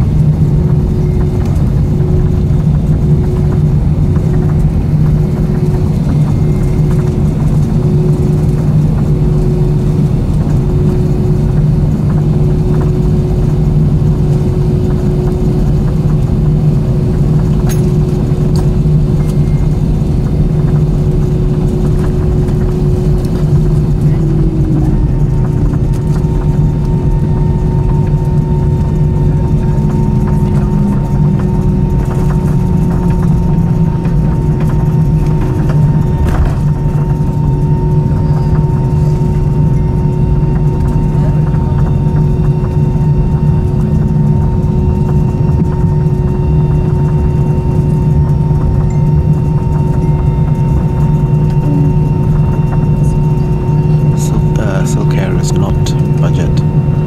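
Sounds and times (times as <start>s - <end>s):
aircraft cabin drone: 0.0s - 57.0s
constant hum: 0.0s - 57.0s.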